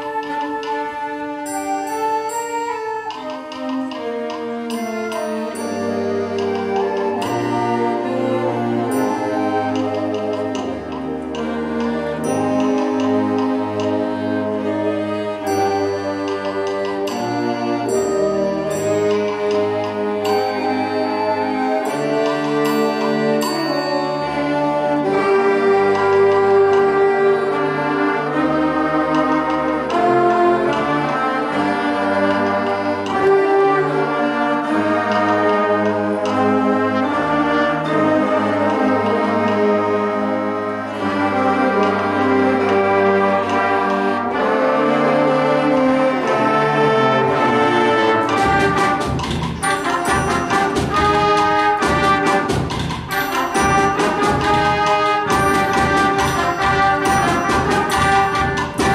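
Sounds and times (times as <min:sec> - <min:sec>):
concert band playing: 0:00.0 - 0:58.9
sharp percussion strikes: 0:01.5 - 0:14.6, 0:15.4 - 0:39.7, 0:45.8 - 0:58.9.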